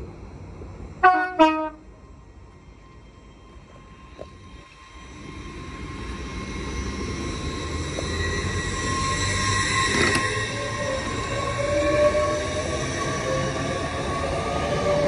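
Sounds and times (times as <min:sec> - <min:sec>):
rail and wheel rumble: 0:00.0 - 0:15.0
high-pitched whine: 0:01.9 - 0:15.0.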